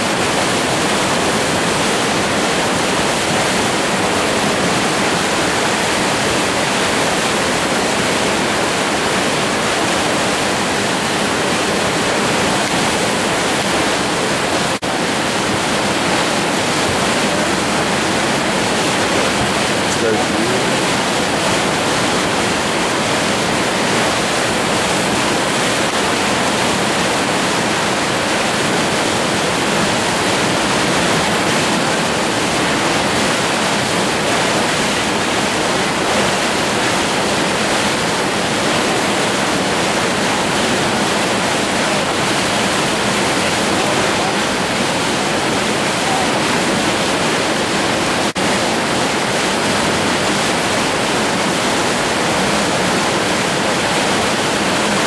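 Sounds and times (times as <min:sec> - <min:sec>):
rapids rushing: 0:00.0 - 0:55.0.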